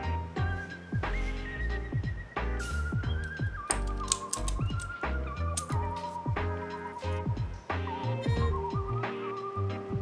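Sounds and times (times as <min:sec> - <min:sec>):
music with whistle-like melody: 0:00.0 - 0:10.0.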